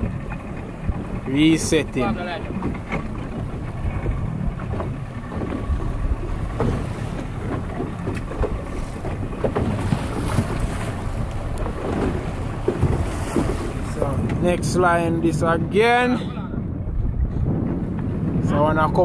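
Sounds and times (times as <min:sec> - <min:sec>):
water rushing along hull: 0:00.0 - 0:19.0
wind buffeting microphone: 0:00.0 - 0:19.0.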